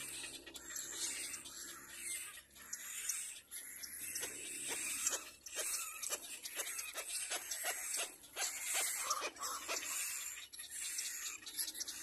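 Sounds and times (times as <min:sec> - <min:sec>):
young cormorant calling: 0:00.0 - 0:12.0.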